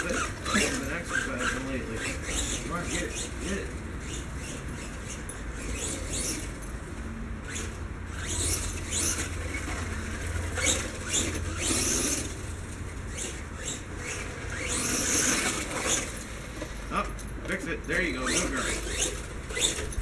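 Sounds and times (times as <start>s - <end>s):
electric motor whining: 0.0s - 16.7s, 17.5s - 20.0s.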